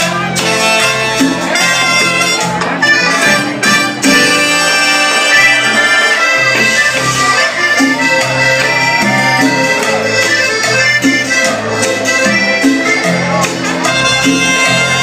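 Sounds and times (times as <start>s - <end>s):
live band playing latin dance music: 0.0s - 15.0s.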